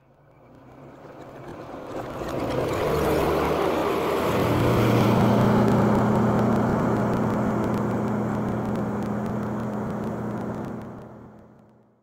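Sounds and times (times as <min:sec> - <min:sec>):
military vehicle engine droning: 0:00.0 - 0:11.9.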